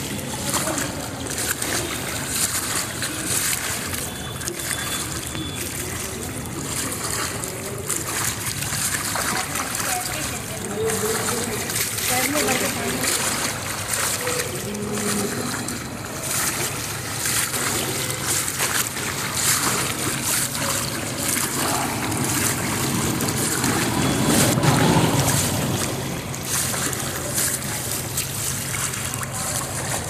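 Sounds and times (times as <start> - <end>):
wading through floodwater: 0.0 - 30.0.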